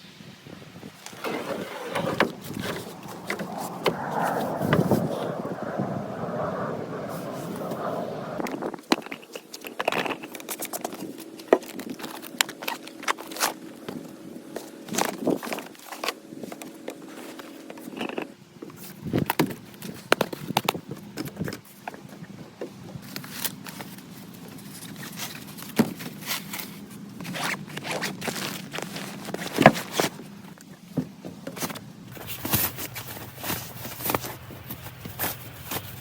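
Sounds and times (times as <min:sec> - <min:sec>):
rustling and scraping of handling: 0:00.9 - 0:36.0.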